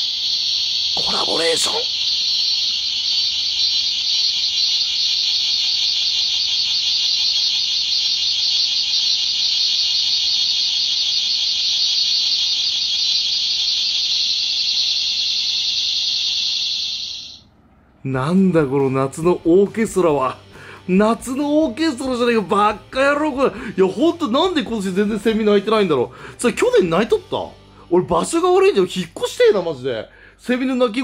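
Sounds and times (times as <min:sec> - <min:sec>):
recorded cicada buzz from speakers: 0:00.0 - 0:31.0.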